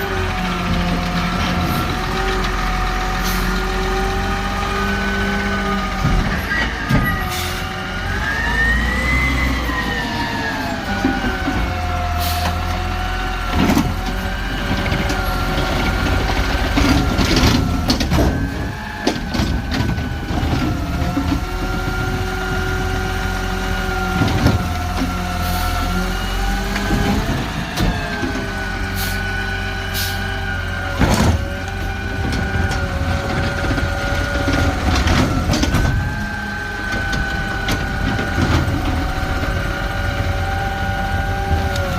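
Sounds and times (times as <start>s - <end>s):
garbage truck engine whining: 0.0s - 41.9s.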